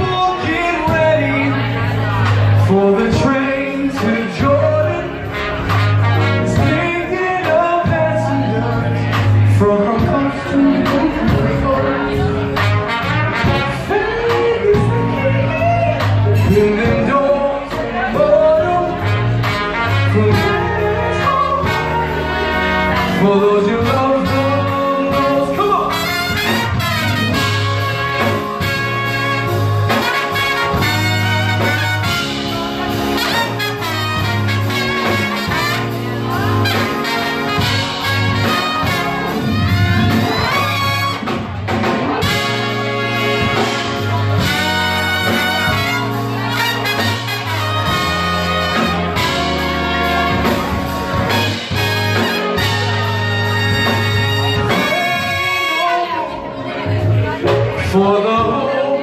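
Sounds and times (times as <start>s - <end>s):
bass line: 0.0s - 59.0s
drums: 0.0s - 59.0s
keyboard: 0.0s - 59.0s
trumpet and trombone melody: 0.0s - 59.0s.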